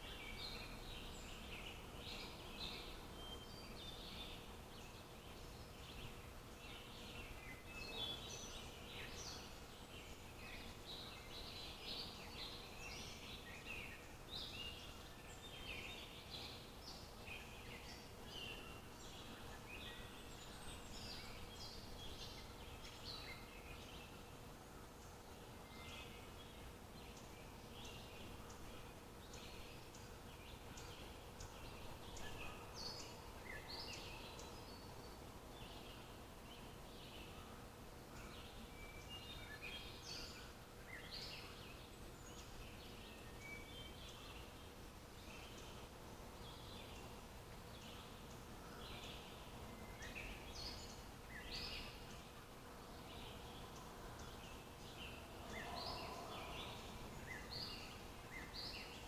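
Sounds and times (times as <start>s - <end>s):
low outdoor hiss: 0.0s - 59.0s
small birds chirping and trilling: 0.0s - 59.0s.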